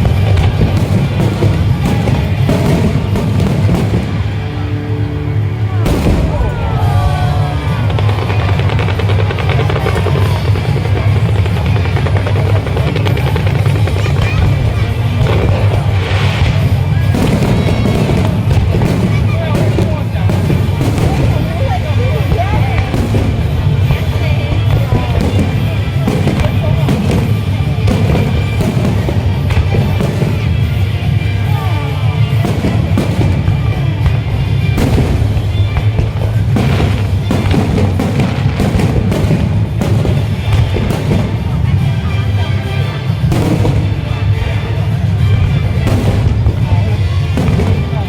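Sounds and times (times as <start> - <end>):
firework bursting: 0.0 - 48.0
firework crackling: 0.0 - 48.0
loud music: 0.0 - 48.0.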